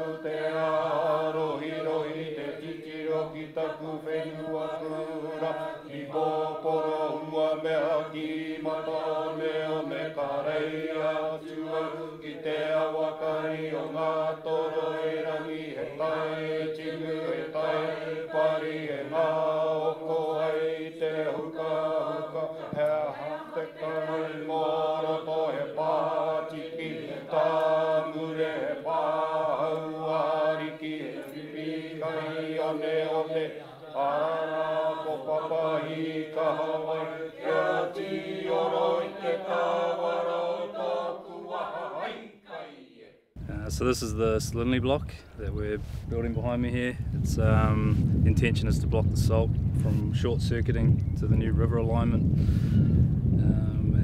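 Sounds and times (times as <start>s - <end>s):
voices singing a chant: 0.0s - 44.3s.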